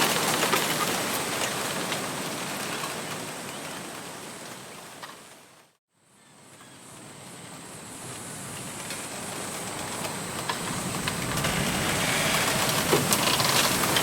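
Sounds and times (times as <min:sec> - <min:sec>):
rustling leaves: 0:00.0 - 0:14.0
wind rushing through bamboo: 0:00.0 - 0:14.0.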